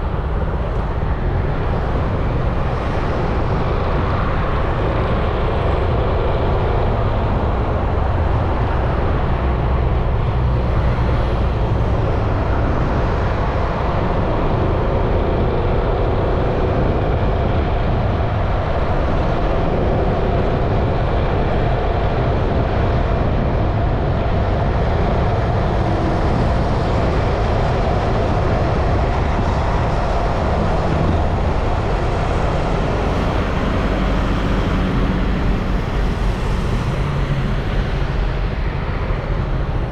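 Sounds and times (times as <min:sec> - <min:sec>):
road noise: 0:00.0 - 0:39.9
wind noise: 0:00.0 - 0:39.9.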